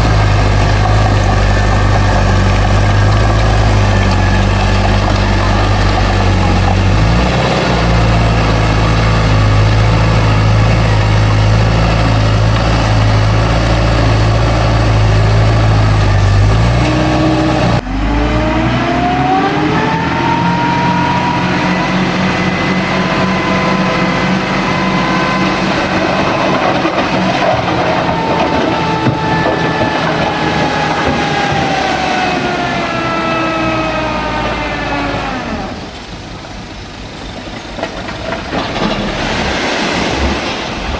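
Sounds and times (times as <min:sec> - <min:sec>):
engine revving up: 0:00.0 - 0:35.9
heavy diesel engine running: 0:00.0 - 0:40.9.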